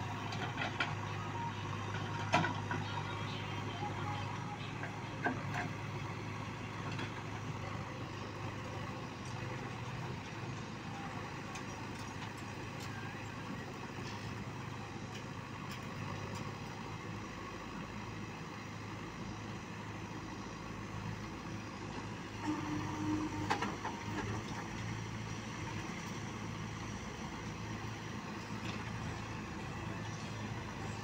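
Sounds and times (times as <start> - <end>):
diesel engines running: 0.0 - 31.0.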